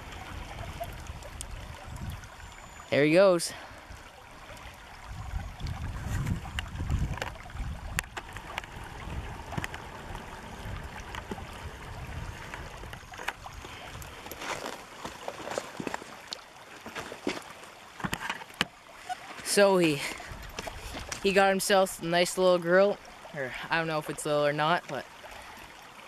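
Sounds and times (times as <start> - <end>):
river water over stones: 0.0 - 26.0.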